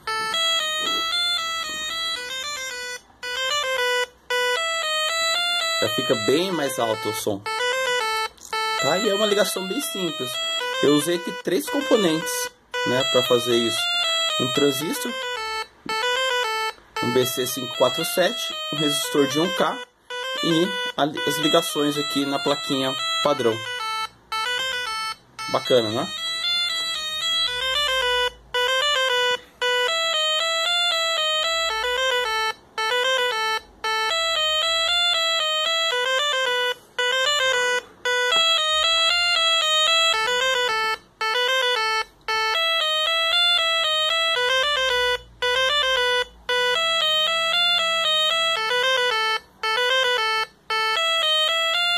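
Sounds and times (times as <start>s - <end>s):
buzzy square-wave beeping tune: 0.0s - 51.9s.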